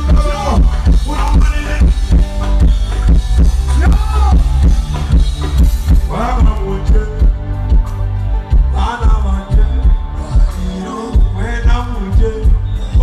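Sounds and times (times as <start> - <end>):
instrumental music with heavy bass: 0.0 - 13.0.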